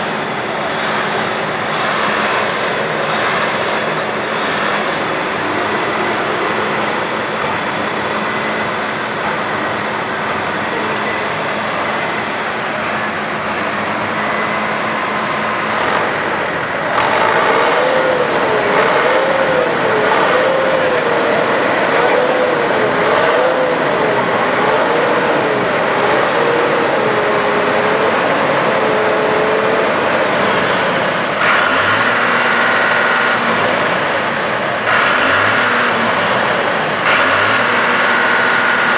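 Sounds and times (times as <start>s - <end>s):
farm machinery engines running: 0.0s - 38.9s.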